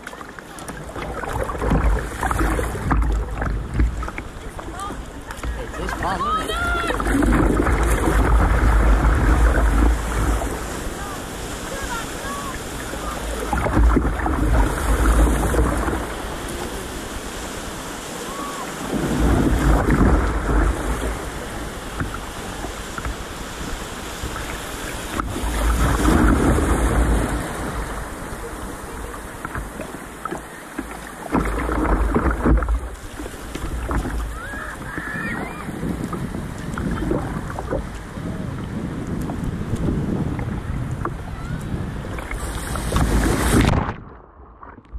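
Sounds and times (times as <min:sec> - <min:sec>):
small waves splashing: 0:00.0 - 0:44.9
wind buffeting microphone: 0:00.7 - 0:30.2, 0:31.3 - 0:44.9.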